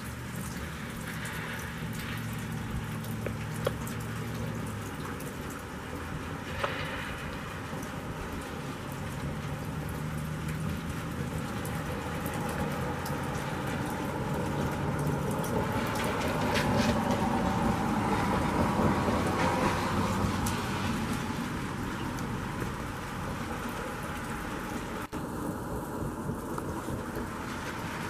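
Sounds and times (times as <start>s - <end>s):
car tyres hissing on wet road: 0.0s - 28.0s
steady rain falling: 0.0s - 28.0s.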